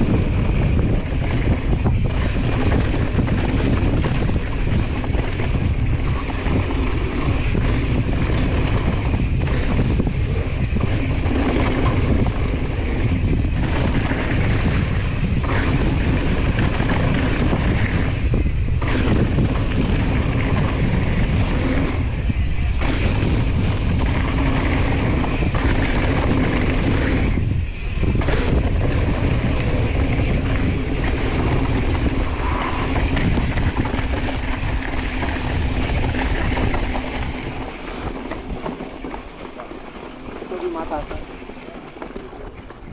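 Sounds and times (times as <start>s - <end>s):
bike tyres rolling over gravel: 0.0s - 42.9s
wind buffeting microphone: 0.0s - 42.9s.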